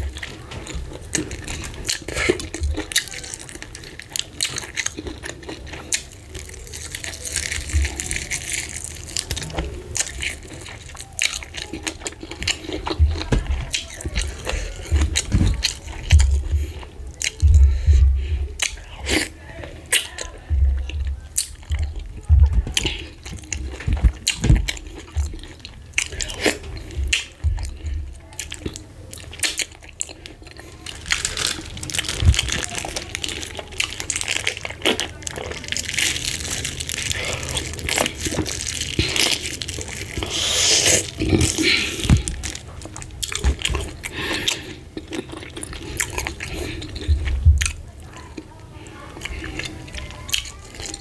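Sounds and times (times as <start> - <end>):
chewing and wet mouth sounds: 0.0 - 51.0.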